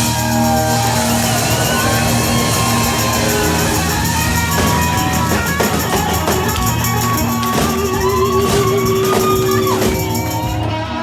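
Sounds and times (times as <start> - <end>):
bass guitar: 0.0 - 11.0
drums: 0.0 - 11.0
electric guitar: 0.0 - 11.0.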